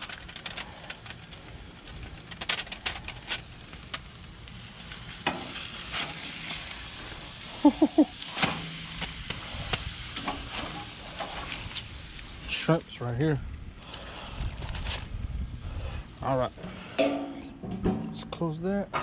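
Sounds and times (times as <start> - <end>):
fish sizzling on a grill: 0.0 - 17.4.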